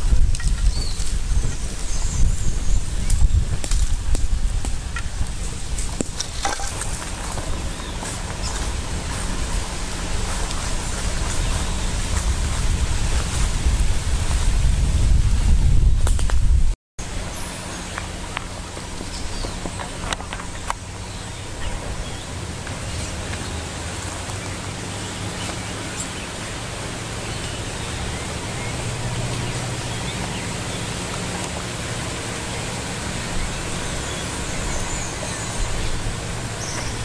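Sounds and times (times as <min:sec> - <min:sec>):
low even hum: 0:00.0 - 0:37.0.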